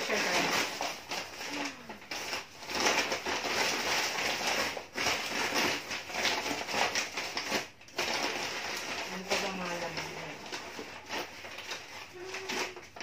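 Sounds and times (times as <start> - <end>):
paper bag rustling and crinkling: 0.0 - 13.0.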